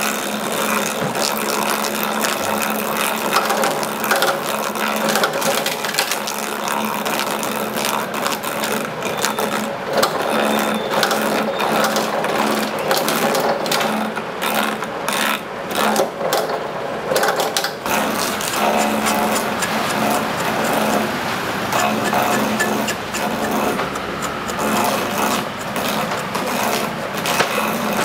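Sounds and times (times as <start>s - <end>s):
small machine motor humming: 0.0s - 16.2s, 17.7s - 28.0s.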